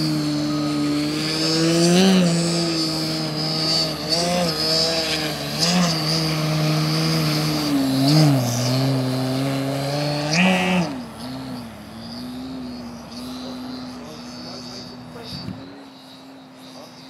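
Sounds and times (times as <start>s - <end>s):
electric model plane motor droning: 0.0s - 17.0s.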